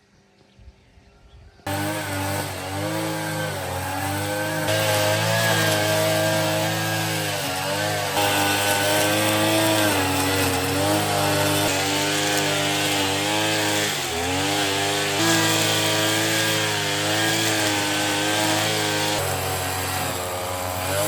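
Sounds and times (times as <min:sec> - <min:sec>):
small petrol engine running: 0:01.7 - 0:21.0.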